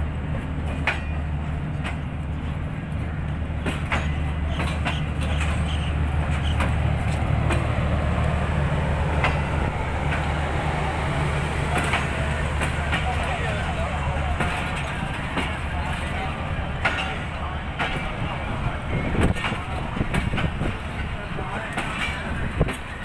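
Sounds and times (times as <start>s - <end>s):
train coaches rumbling past: 0.0s - 23.0s
wheels clicking on track: 0.3s - 23.0s.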